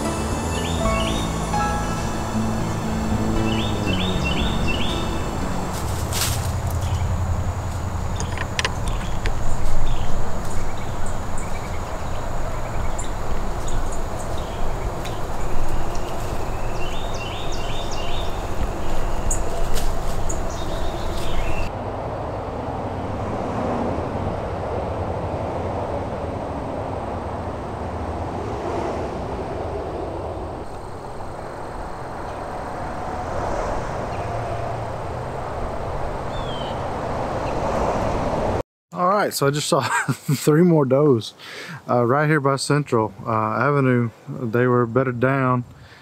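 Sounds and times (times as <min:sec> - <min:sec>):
road traffic rushing: 0:00.0 - 0:38.6.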